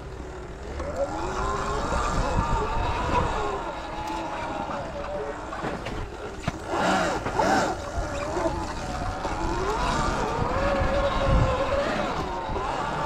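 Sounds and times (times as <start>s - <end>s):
electric dirt bike motor whining: 0.0s - 13.0s
low rumble of riding on rough trail: 0.0s - 13.0s.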